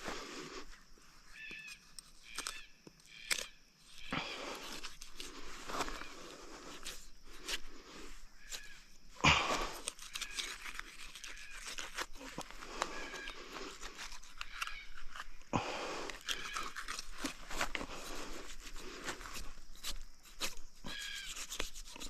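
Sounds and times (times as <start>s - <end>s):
knife cutting and scraping carcass: 3.2s - 22.0s.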